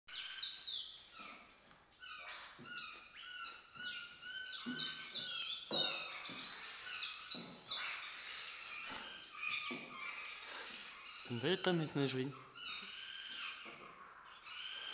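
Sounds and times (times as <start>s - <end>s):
small birds chirping chorus: 0.1s - 14.9s.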